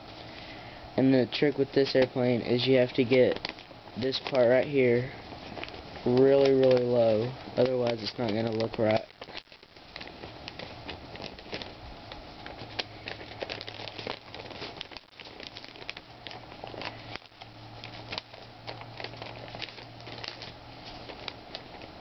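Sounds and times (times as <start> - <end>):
paper rustling and crinkling: 1.4 - 22.0.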